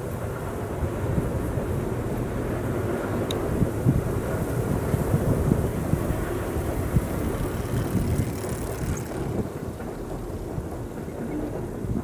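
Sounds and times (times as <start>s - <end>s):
train rumbling on bridge: 0.0s - 12.0s
wind buffeting microphone: 0.0s - 12.0s.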